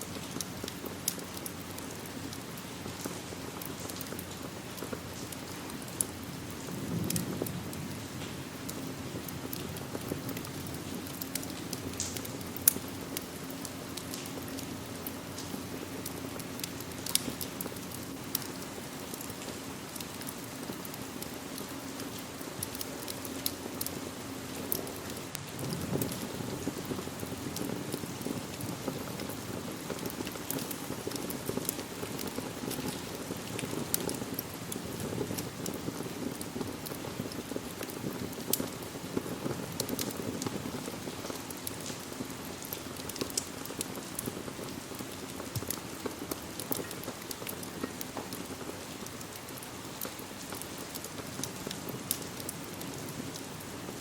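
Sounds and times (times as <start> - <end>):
sharp ticks and crackles: 0.0 - 54.0
steady rain falling: 0.0 - 54.0.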